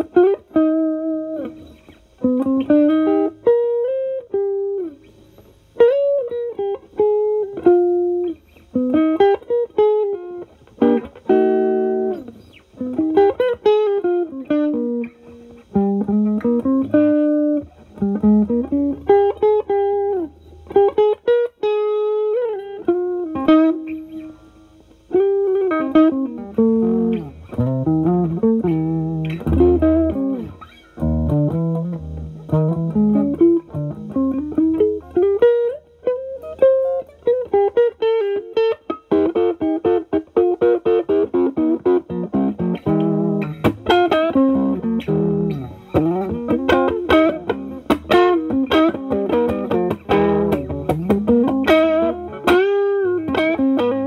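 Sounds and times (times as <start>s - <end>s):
overdriven electric guitar lead: 0.0s - 54.0s.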